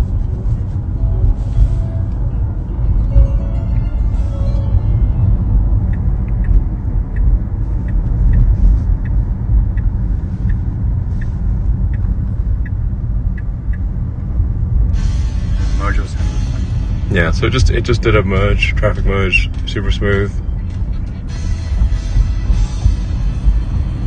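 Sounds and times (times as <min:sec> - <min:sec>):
car road and engine rumble: 0:00.0 - 0:24.0
turn signal ticking: 0:00.0 - 0:24.0.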